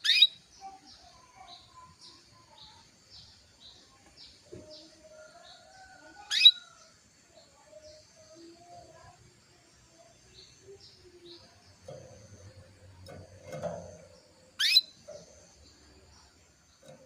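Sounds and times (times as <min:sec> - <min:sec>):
canary chirping: 0:00.0 - 0:09.2, 0:10.0 - 0:17.0.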